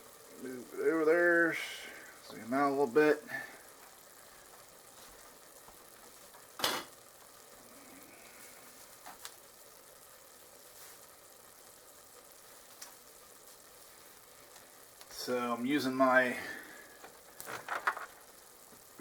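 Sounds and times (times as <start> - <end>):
meat sizzling faintly in a pot: 0.0 - 19.0.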